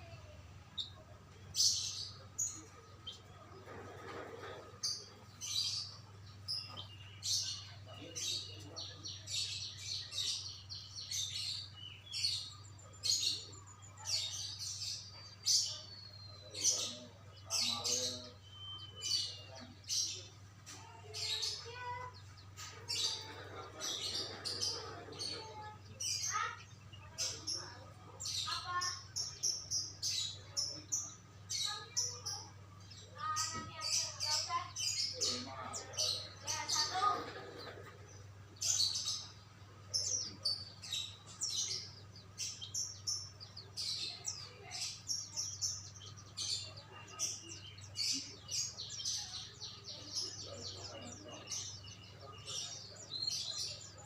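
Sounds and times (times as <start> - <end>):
faint voices: 0.0 - 54.0
songbirds chirping and singing: 0.0 - 54.0.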